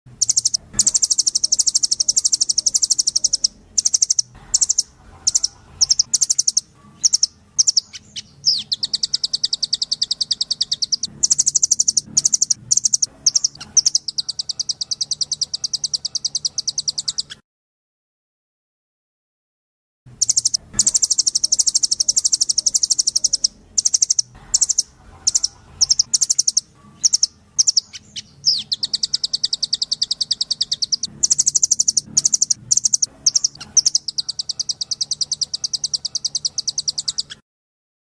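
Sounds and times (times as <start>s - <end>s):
bird song high trills: 0.1s - 17.4s, 20.1s - 37.4s.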